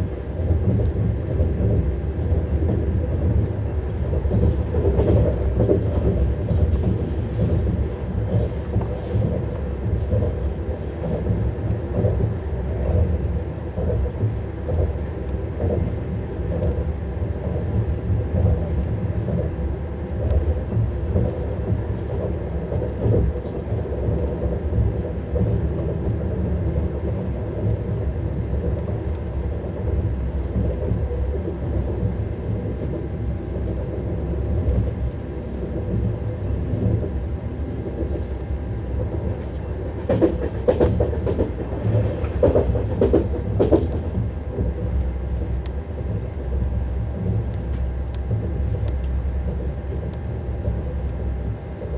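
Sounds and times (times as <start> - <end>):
faint steady hum: 0.0 - 51.9
train wheels rumbling on track: 0.0 - 51.9.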